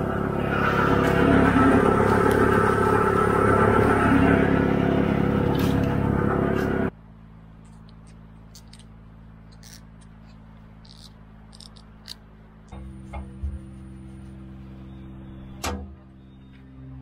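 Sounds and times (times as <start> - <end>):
loud engine running: 0.0 - 17.0
low hum: 0.0 - 17.0.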